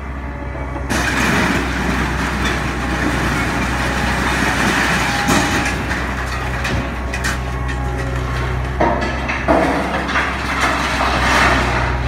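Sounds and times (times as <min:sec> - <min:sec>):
scrap metal grinding and crashing: 0:00.9 - 0:12.0.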